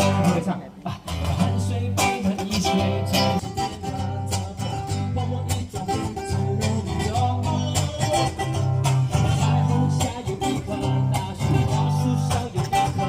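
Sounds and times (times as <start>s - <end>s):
strummed guitar: 0.0s - 13.0s
sustained bass notes: 0.0s - 13.0s.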